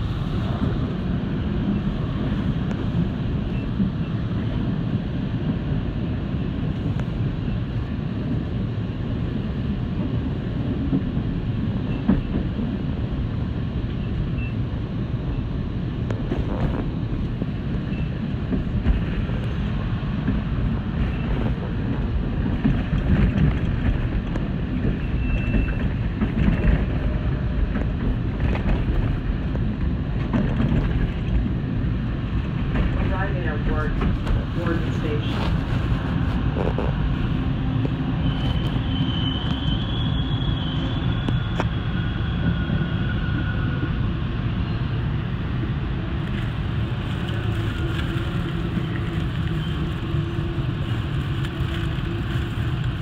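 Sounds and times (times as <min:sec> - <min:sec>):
subway train rumbling on rails: 0:00.0 - 0:53.0.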